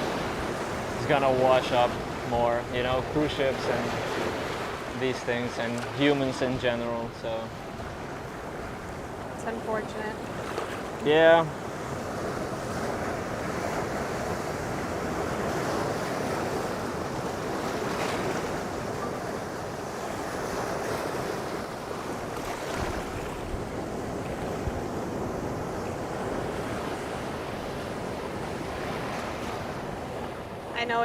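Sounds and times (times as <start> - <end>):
surf breaking on shore: 0.0 - 31.0
wind gusting on microphone: 0.0 - 31.0.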